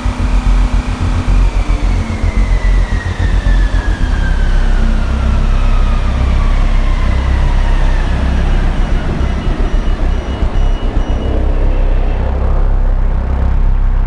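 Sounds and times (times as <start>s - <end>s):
diesel generator rumbling: 0.0s - 14.0s
faint whine falling in pitch: 0.0s - 14.0s.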